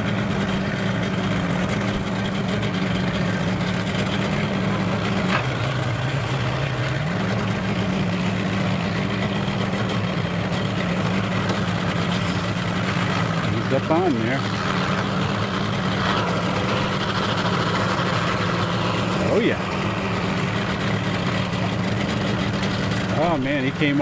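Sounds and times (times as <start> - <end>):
outboard motor idling: 0.0 - 24.0.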